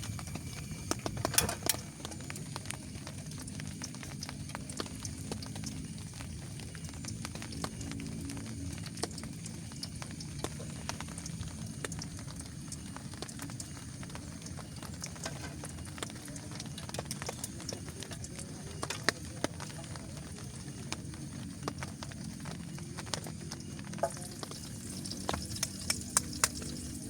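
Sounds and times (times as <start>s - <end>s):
sharp ticks and pops: 0.0s - 27.0s.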